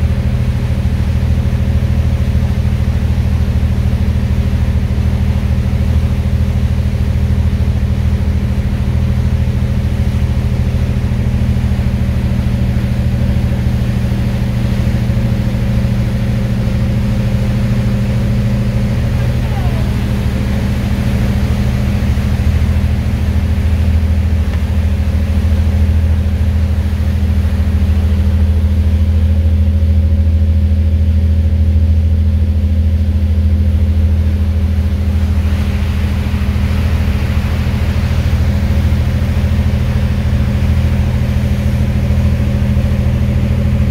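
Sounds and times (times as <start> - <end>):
churned water rushing: 0.0 - 31.2, 33.2 - 43.9
boat diesel engine droning: 0.0 - 43.9.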